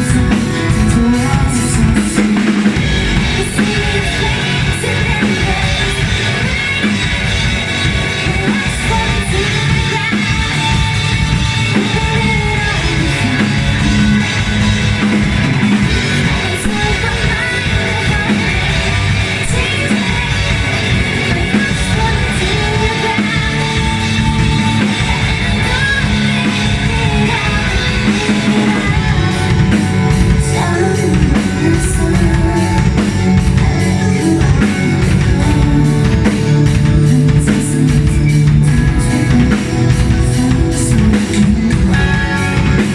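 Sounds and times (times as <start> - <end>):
person singing: 0.0 - 14.5, 15.8 - 42.9
live rock band playing: 0.0 - 42.9.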